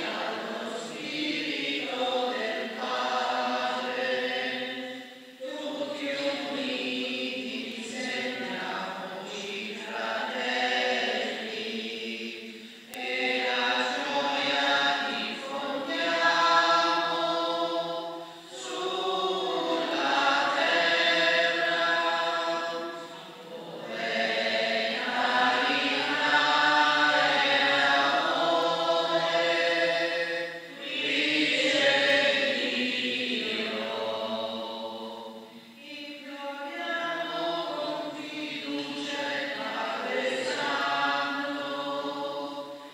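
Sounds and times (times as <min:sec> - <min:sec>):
people singing a hymn: 0:00.0 - 0:42.9.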